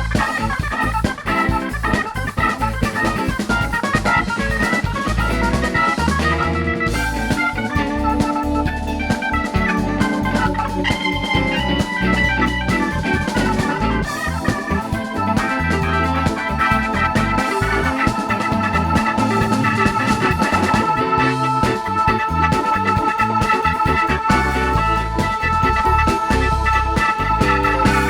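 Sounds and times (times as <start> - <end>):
drum kit beat: 0.0 - 28.0
organ-like keyboard chords: 0.0 - 28.0.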